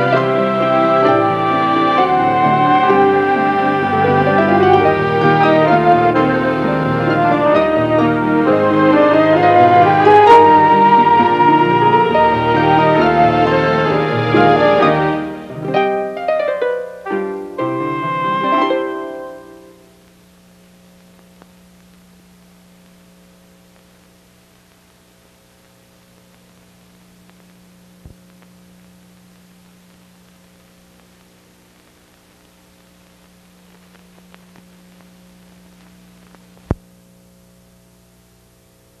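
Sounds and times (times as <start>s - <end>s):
electrical mains hum: 0.0s - 39.0s
faint hiss: 0.0s - 39.0s.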